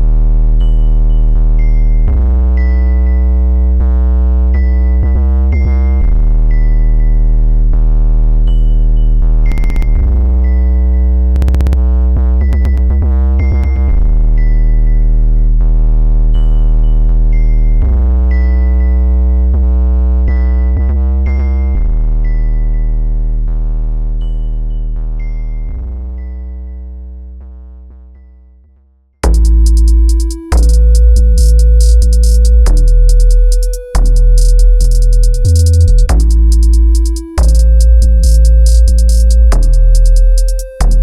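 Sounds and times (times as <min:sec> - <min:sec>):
synthesizer music with bass chords: 0:00.0 - 0:28.2, 0:29.2 - 0:41.0.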